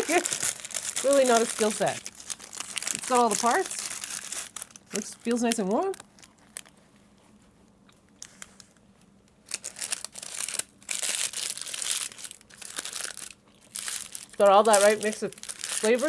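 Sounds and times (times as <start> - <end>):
paper wrapping crinkling: 0.0 - 7.4, 8.1 - 16.0.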